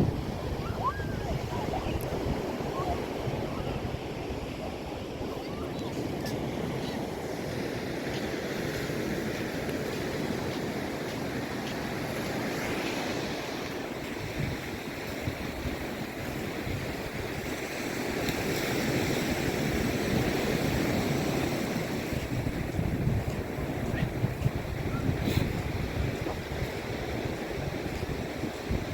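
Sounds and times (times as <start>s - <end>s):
wind buffeting microphone: 0.0s - 6.9s, 8.6s - 28.9s
ocean surf on sandy beach: 0.0s - 28.9s.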